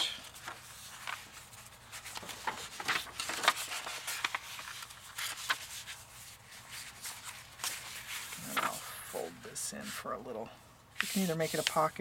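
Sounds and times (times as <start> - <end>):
paper rustling and crackling: 0.0 - 10.1, 11.0 - 12.0.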